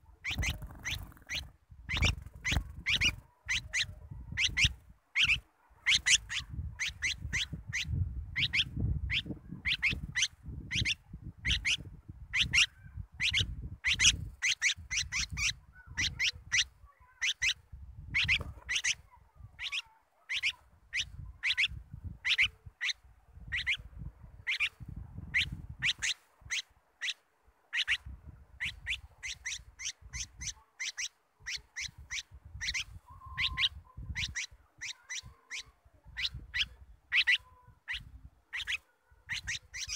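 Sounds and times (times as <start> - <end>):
bird chirping: 0.1 - 39.9.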